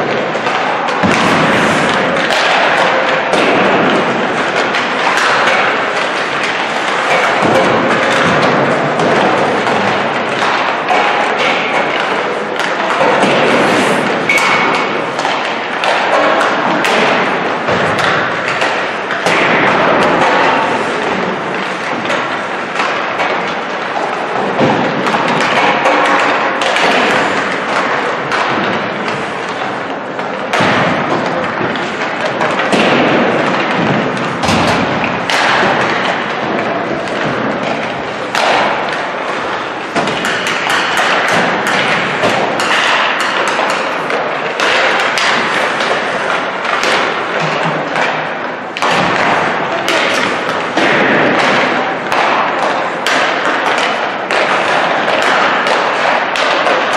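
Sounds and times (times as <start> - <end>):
hockey sticks slapping pucks: 0.0 - 56.9
pucks banging off boards: 0.0 - 56.9.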